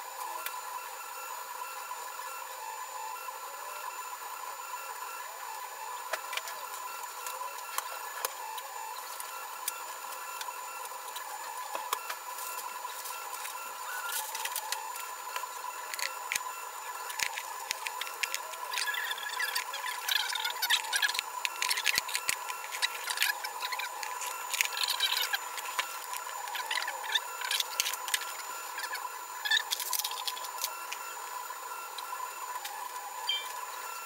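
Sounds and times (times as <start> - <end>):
stepper motors whining: 0.0 - 34.0.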